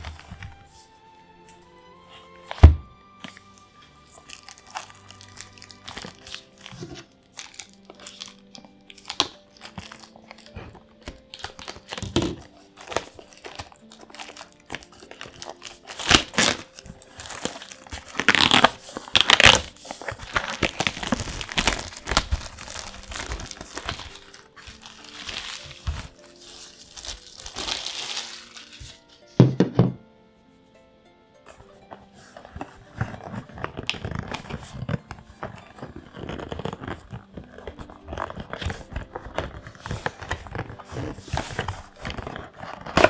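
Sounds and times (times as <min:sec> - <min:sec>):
plastic wrapping crinkling: 0:00.0 - 0:30.0, 0:31.4 - 0:43.0
faint music: 0:00.0 - 0:43.0.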